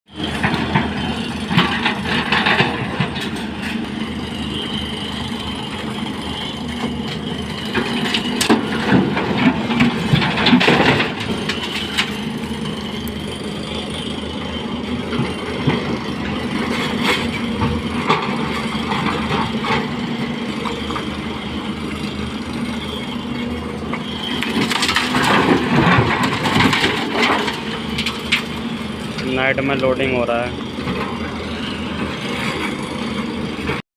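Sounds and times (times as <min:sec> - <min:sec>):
excavator diesel engine: 0:00.1 - 0:33.8.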